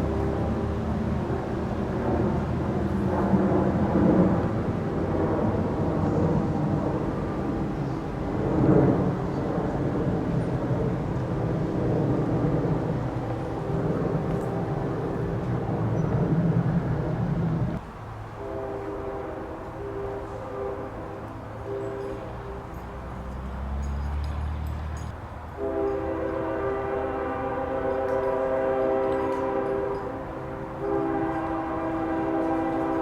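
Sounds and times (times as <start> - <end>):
diesel locomotive engine drone: 0.0 - 33.0.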